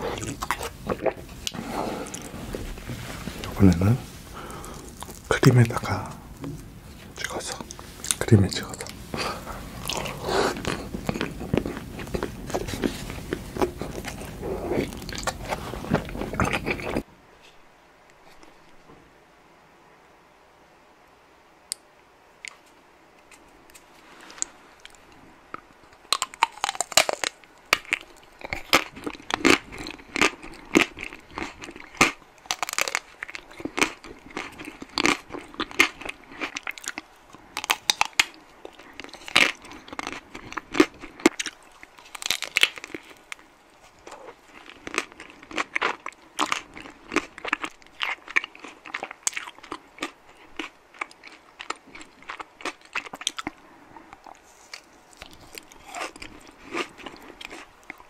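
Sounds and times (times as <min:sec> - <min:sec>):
chewing: 0:00.0 - 0:17.0, 0:23.3 - 0:58.0.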